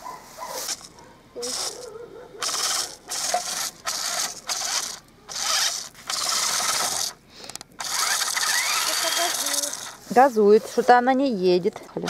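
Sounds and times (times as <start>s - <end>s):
toy truck motor whirring: 0.6s - 12.0s.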